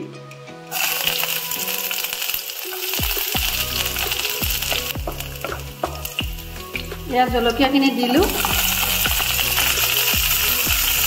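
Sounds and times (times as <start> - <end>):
garlic sizzling in hot oil: 0.7 - 11.0.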